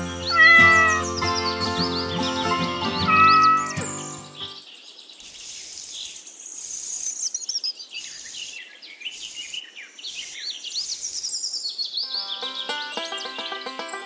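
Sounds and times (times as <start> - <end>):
songbirds chirping and trilling: 0.0 - 14.0.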